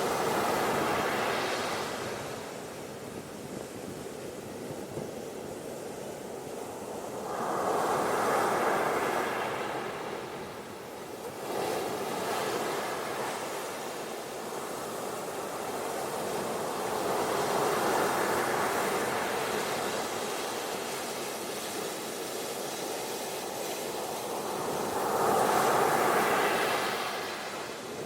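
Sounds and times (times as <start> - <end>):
ocean waves washing onto beach: 0.0 - 28.0.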